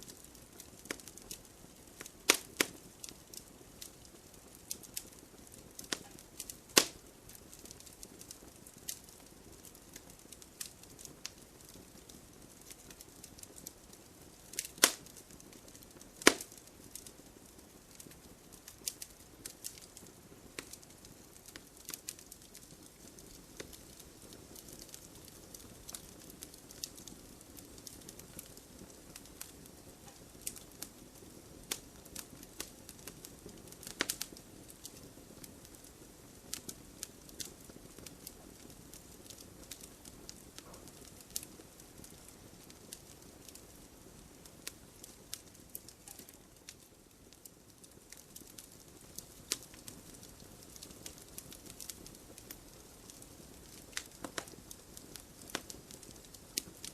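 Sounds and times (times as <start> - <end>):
faint steady hiss: 0.0 - 56.9
wood fire crackling: 0.0 - 56.9.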